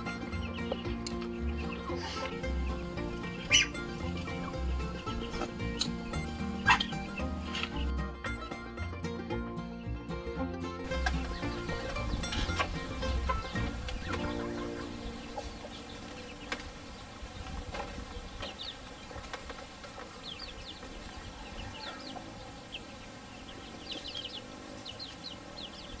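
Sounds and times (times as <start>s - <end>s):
chickens: 0.0s - 26.0s.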